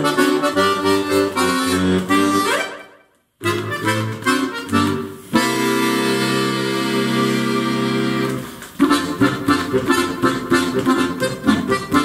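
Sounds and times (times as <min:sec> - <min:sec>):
button accordion playing: 0:00.0 - 0:12.0.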